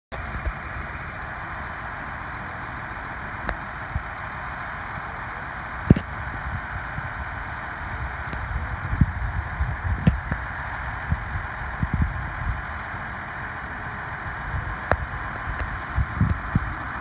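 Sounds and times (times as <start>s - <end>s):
heavy farm machinery engine: 0.0s - 17.0s.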